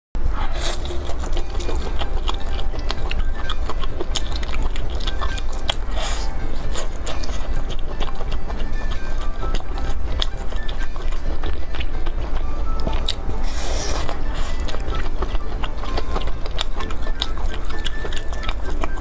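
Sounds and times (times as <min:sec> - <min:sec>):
chewing and biting food: 0:00.2 - 0:19.0.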